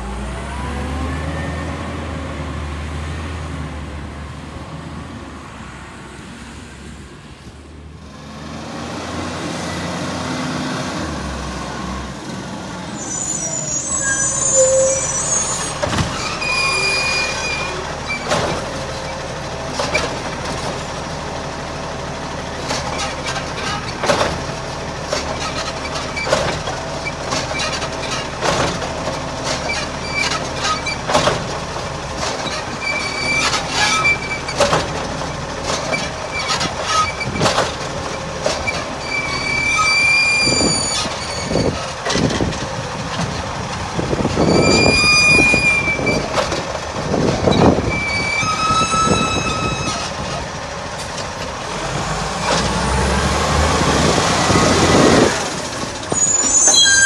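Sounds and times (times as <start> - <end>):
garbage truck diesel engine: 0.0 - 57.0.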